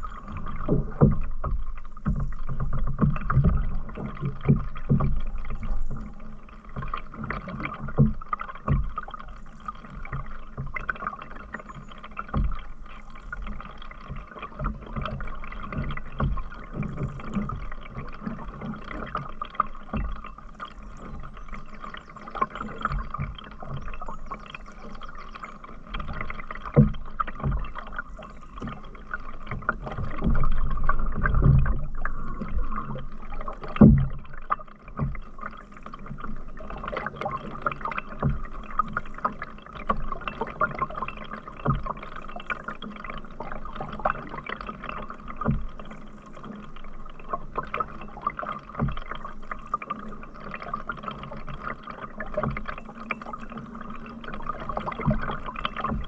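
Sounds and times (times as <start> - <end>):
paddle splashing and dripping water: 0.0 - 56.0.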